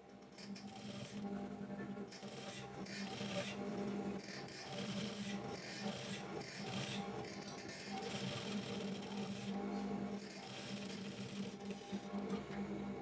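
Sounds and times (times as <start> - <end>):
sewing machine motor hum: 0.0 - 1.3, 2.0 - 13.0.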